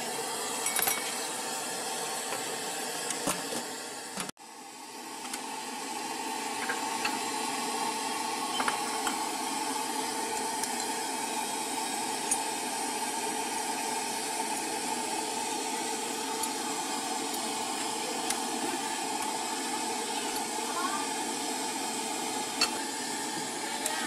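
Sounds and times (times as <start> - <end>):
gas burner hissing: 0.0 - 24.0.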